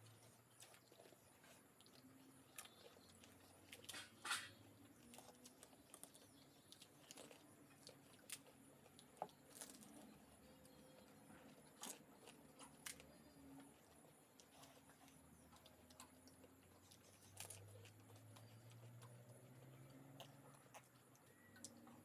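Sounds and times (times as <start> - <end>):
crunching while eating: 0.0 - 22.0.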